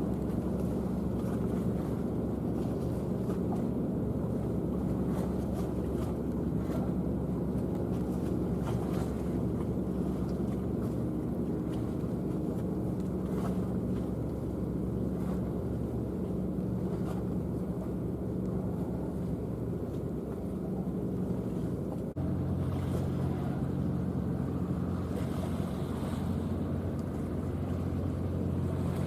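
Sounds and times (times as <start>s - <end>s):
rushing water: 0.0s - 29.0s
ship engines droning: 0.0s - 29.0s
wind: 0.0s - 29.0s.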